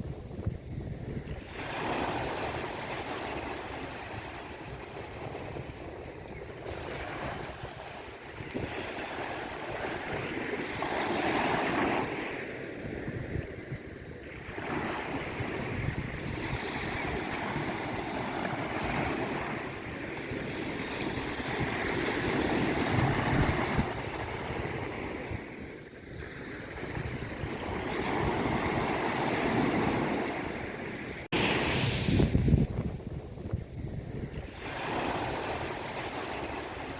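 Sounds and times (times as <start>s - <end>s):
sea waves washing: 0.0s - 36.9s.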